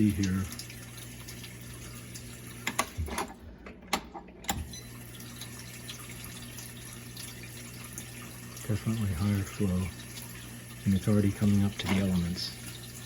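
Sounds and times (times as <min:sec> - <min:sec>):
water running into dishwasher: 0:00.0 - 0:13.0.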